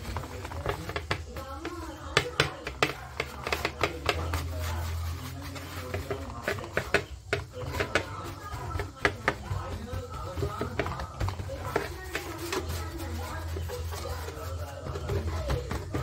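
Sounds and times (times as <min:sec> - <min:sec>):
background voices: 0:00.0 - 0:16.0
hands patting on metal tray: 0:00.0 - 0:16.0.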